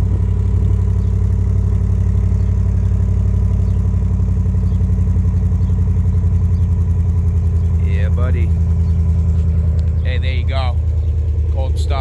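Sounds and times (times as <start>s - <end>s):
truck exhaust idling: 0.0s - 12.0s.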